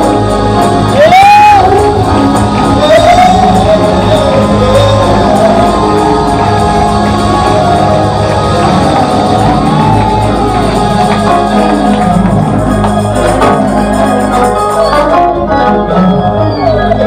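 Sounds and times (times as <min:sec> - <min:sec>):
light percussion: 0:00.0 - 0:15.3
organ holding sustained chords: 0:00.0 - 0:17.0
steady bass: 0:00.0 - 0:17.0.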